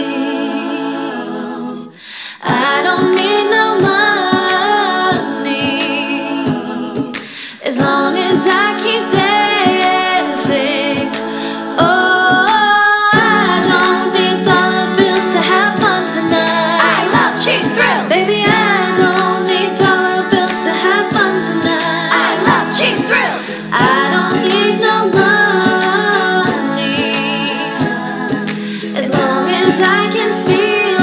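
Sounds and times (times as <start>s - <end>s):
woman singing wordless soprano: 1.8s - 31.0s
clicking beat: 2.4s - 31.0s.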